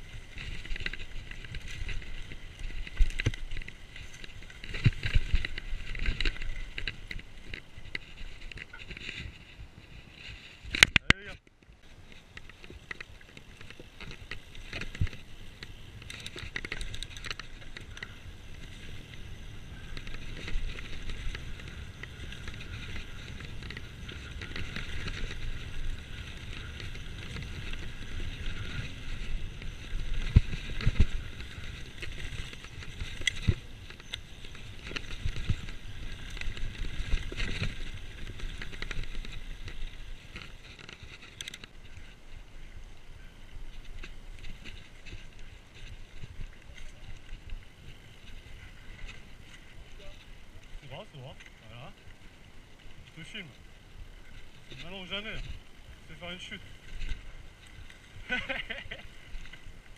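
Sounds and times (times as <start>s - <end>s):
bike tyres rumbling on dirt: 0.0s - 59.9s.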